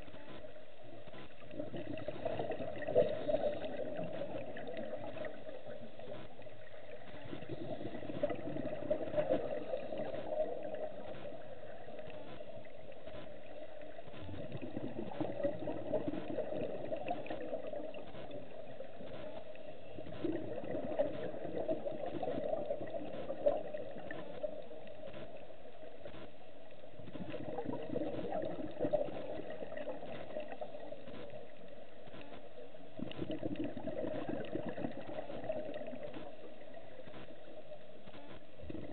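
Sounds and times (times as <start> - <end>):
muffled underwater hum: 0.0 - 38.9
underwater bubbles gurgling: 0.0 - 38.9.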